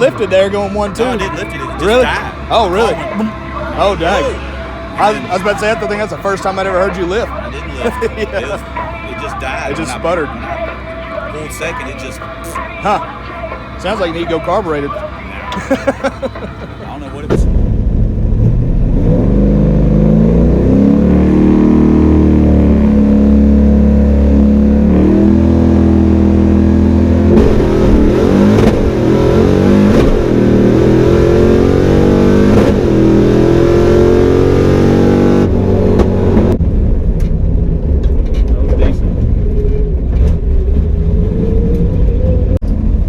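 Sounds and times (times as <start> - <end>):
car engine accelerating hard: 0.0 - 43.0.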